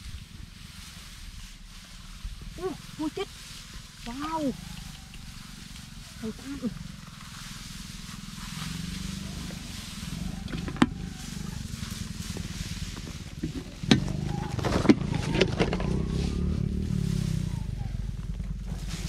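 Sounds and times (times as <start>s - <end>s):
rice plants rustling: 0.0s - 19.0s.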